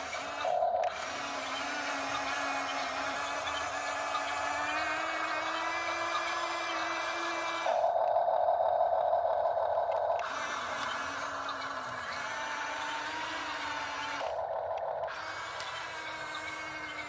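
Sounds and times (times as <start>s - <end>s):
dull buzz: 0.0s - 8.0s, 10.1s - 17.0s
electric motors whining: 0.0s - 8.7s, 9.9s - 17.0s.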